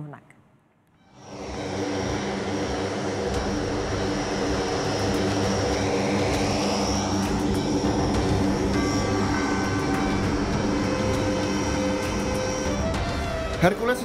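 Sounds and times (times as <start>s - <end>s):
high turbine whine: 0.9s - 14.0s
propeller drone: 1.0s - 14.0s.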